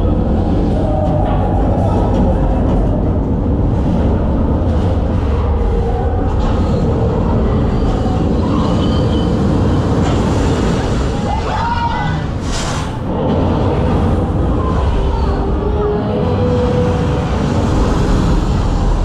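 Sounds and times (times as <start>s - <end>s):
low rumble with rushing noise: 0.0s - 19.0s.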